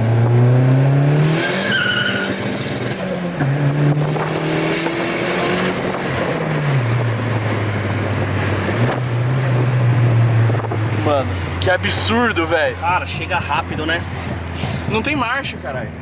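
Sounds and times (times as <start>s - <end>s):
car engine revving: 0.0s - 16.0s
wind and road noise: 0.0s - 16.0s.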